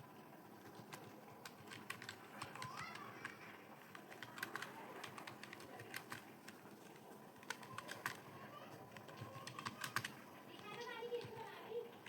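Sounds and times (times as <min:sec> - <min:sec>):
keyboard keys clicking: 0:00.6 - 0:08.3, 0:08.9 - 0:11.5.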